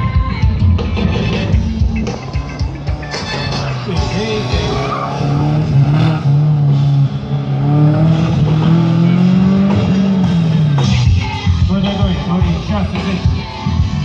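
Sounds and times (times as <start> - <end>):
car engine at high revs: 1.4 - 13.2.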